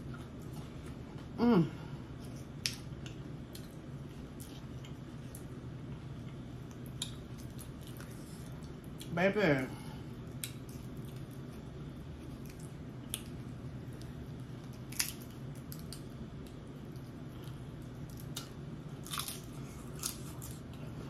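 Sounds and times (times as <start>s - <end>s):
chewing and mouth sounds: 2.2s - 9.1s, 10.3s - 20.9s.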